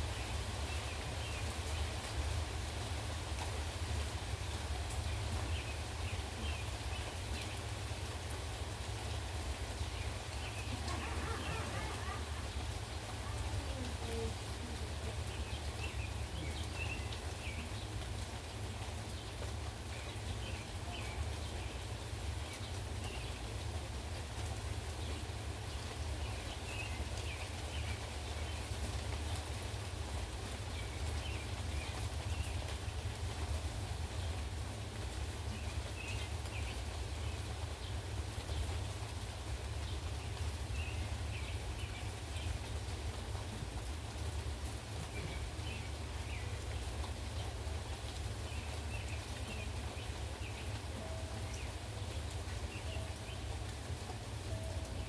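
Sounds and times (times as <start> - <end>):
rain: 0.0 - 55.0.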